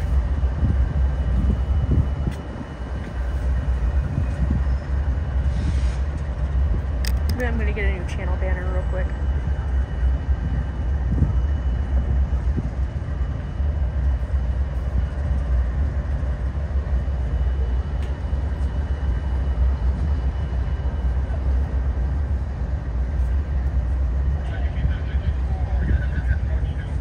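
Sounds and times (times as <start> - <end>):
freight train rumbling on rails: 0.0 - 27.0.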